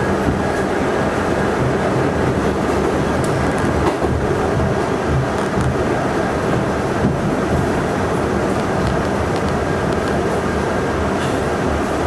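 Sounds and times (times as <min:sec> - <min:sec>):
subway wheels rumbling on track: 0:00.0 - 0:12.0.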